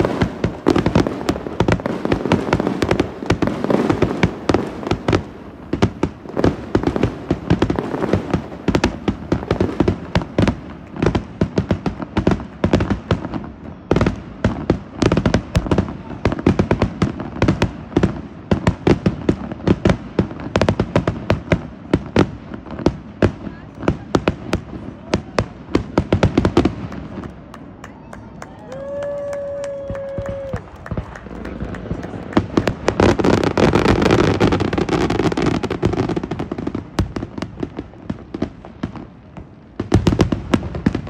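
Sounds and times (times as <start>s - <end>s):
fireworks popping and crackling: 0.0s - 41.0s.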